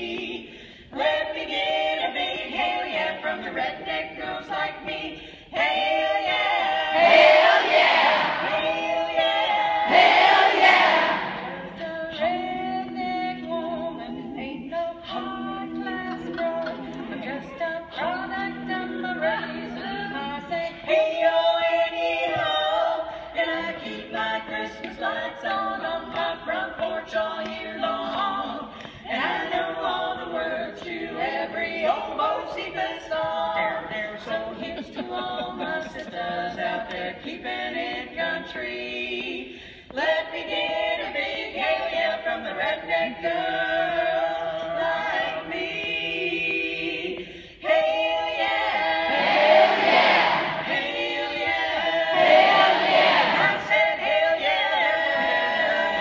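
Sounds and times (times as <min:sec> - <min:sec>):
women singing a cappella harmony: 0:00.0 - 0:56.0.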